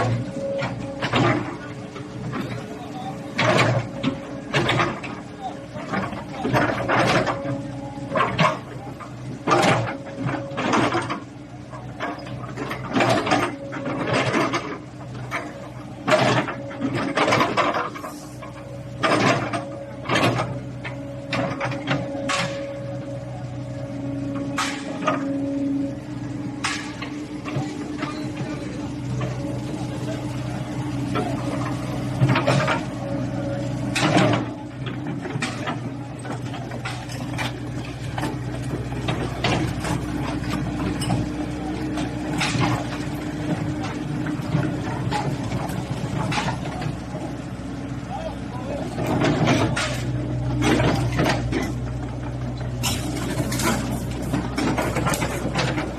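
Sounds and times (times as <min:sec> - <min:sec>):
excavator engine humming: 0:00.0 - 0:55.9.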